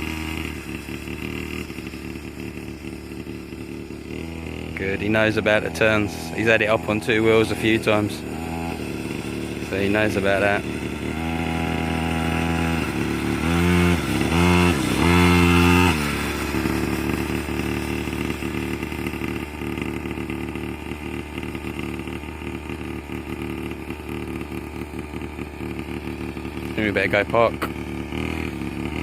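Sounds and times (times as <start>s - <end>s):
two-stroke quad bike engine revving: 0.0s - 29.0s.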